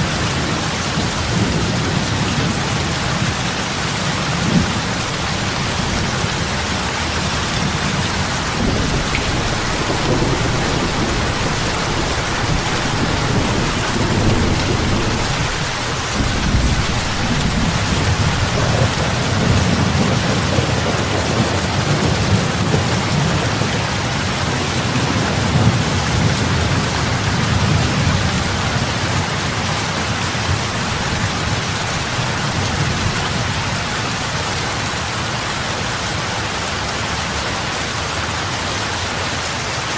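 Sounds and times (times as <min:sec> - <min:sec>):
rain hissing on water: 0:00.0 - 0:39.9.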